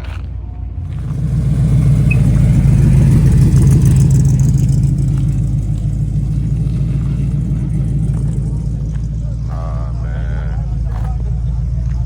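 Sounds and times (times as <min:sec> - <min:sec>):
car engine rumbling: 0:00.4 - 0:12.0.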